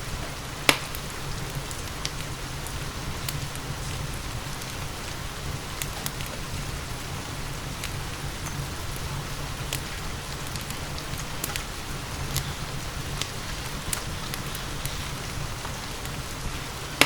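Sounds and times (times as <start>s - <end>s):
crackling wood fire: 0.0s - 17.0s
steady rain: 0.0s - 17.0s.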